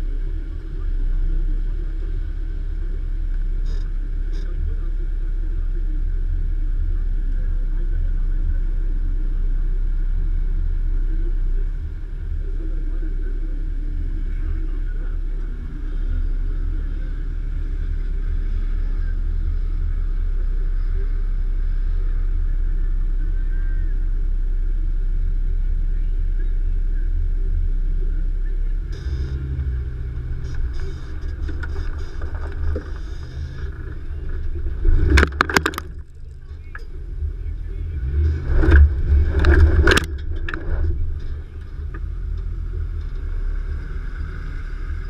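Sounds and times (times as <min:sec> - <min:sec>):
vehicle engine rumbling: 0:00.0 - 0:45.0.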